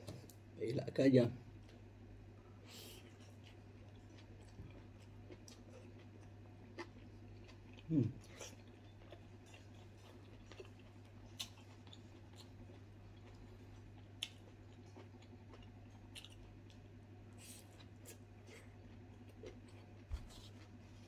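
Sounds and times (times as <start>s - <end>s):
steady low hum: 0.0s - 21.0s
person chewing food: 2.7s - 21.0s.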